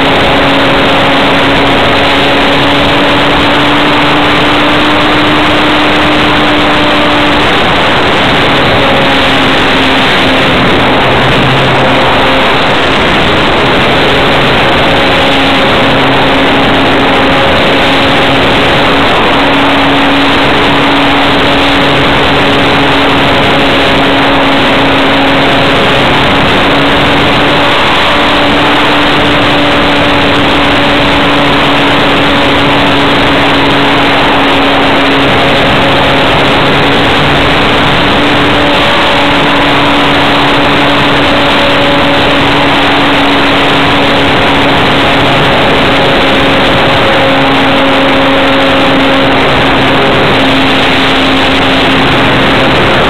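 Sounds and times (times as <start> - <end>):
model airplane motor humming: 0.0 - 53.0
rush of airflow on microphone: 0.0 - 53.0.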